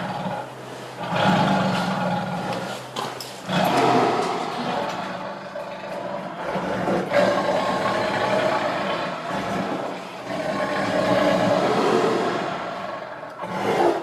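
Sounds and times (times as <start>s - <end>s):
tiger growling: 0.0s - 14.0s.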